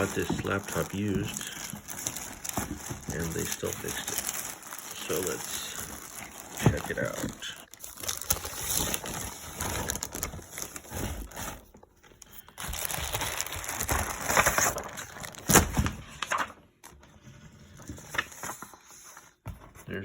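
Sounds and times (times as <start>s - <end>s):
cardboard rustling and crinkling: 0.0s - 20.0s.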